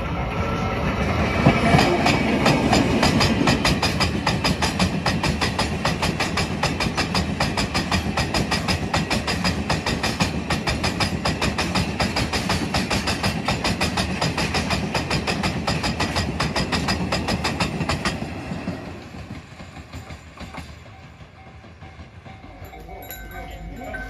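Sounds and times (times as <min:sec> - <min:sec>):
electric locomotive passing: 0:00.0 - 0:24.0.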